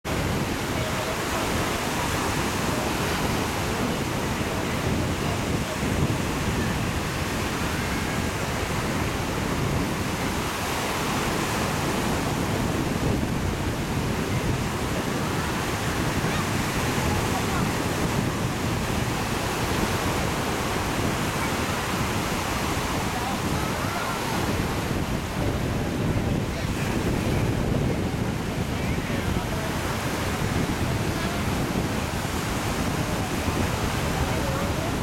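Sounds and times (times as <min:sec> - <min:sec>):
small sea waves: 0:00.0 - 0:35.0
wind rumbling on microphone: 0:00.0 - 0:35.0.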